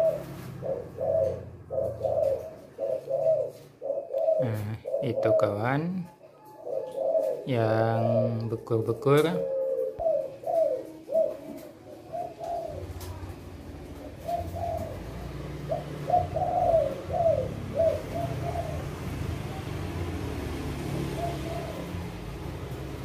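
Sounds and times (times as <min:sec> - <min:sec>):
doves cooing: 0:00.0 - 0:23.0.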